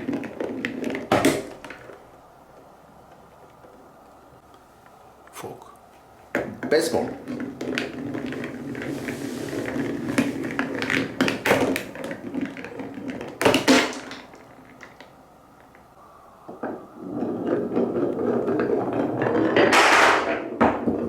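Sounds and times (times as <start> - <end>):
balls clacking on wood: 0.0 - 4.4, 6.2 - 21.0
balls rolling on wooden track: 0.0 - 4.4, 6.2 - 21.0.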